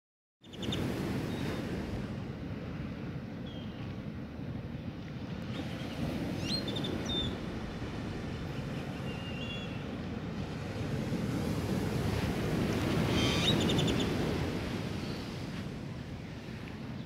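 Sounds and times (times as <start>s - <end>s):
waves breaking on a beach: 0.4s - 17.0s.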